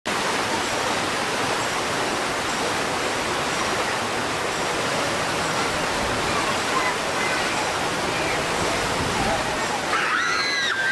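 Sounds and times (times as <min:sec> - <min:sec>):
rapids rushing over rocks: 0:00.1 - 0:10.9.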